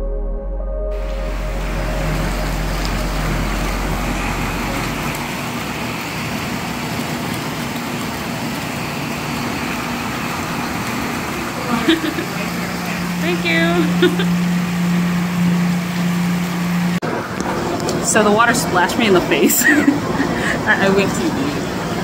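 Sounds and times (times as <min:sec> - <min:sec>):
hot tub jets bubbling water: 0:01.0 - 0:22.0.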